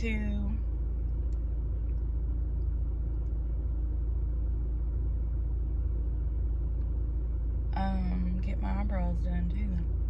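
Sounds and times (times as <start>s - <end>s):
faint hum: 0.0s - 10.0s
steady low rumble: 0.0s - 10.0s.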